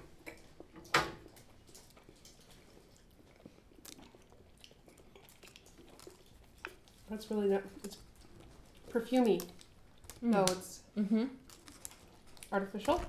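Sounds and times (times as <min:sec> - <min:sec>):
people chewing candy: 0:00.0 - 0:13.0.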